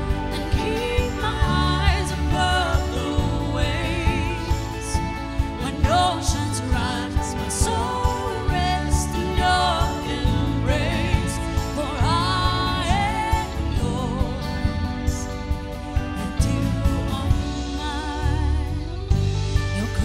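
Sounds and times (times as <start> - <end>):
band with steady drum beat: 0.0 - 20.0.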